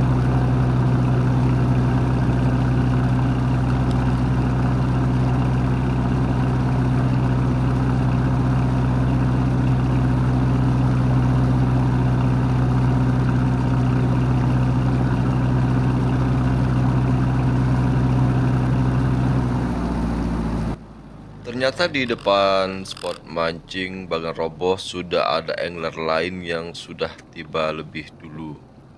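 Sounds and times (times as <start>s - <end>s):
boat engine humming: 0.0s - 28.9s.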